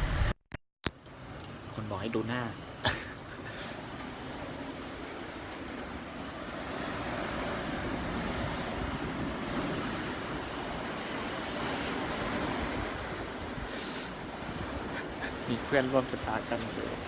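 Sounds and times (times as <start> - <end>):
strong wind rushing past building: 2.2 - 17.0.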